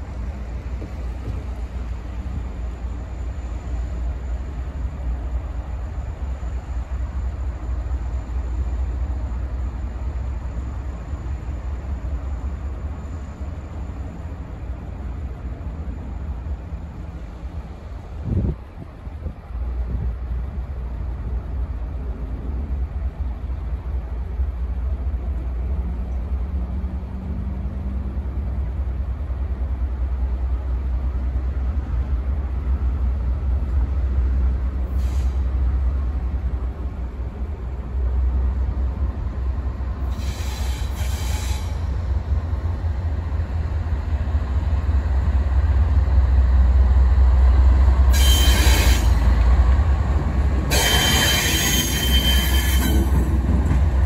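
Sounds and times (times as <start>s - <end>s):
diesel locomotive rumble: 0.0s - 54.0s.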